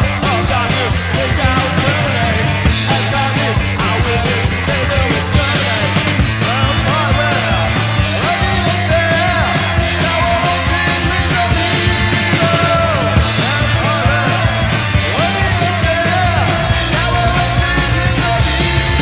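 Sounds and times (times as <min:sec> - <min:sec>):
bass guitar: 0:00.0 - 0:19.0
distorted electric guitars: 0:00.0 - 0:19.0
drums playing: 0:00.0 - 0:19.0
high sliding guitar part: 0:00.0 - 0:19.0.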